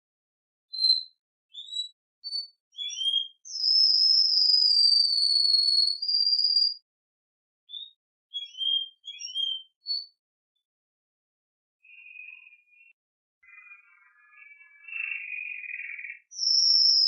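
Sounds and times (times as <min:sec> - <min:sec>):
canary singing: 0:00.7 - 0:06.8, 0:07.7 - 0:10.2, 0:11.8 - 0:17.0.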